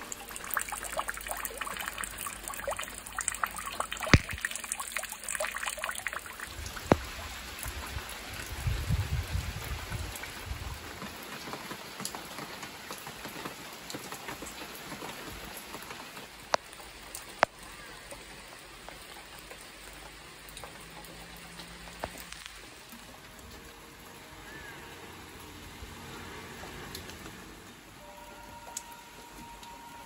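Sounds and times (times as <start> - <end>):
rain on plants and soil: 0.0 - 30.0.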